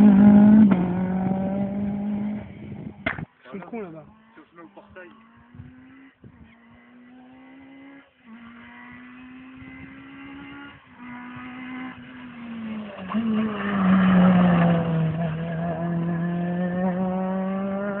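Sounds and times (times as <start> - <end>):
rally car engine passing: 0.0 - 3.0, 3.6 - 18.0.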